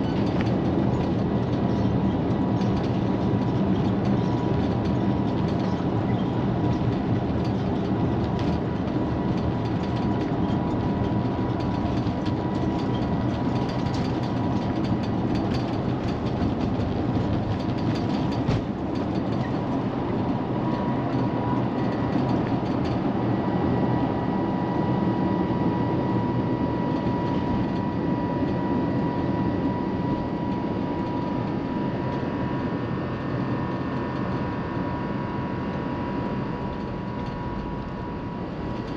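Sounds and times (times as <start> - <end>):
fan whine: 0.0 - 38.9
wheels rumbling on runway: 0.0 - 38.9.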